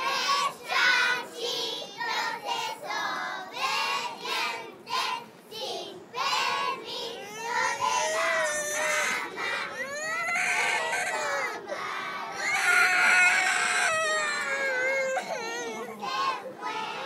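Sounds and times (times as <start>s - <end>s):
young children singing together: 0.0s - 12.6s, 13.9s - 17.0s.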